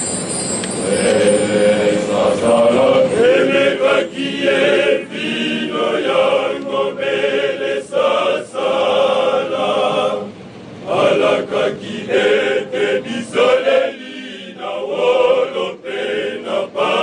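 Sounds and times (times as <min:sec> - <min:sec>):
male choir singing: 0:00.7 - 0:17.0.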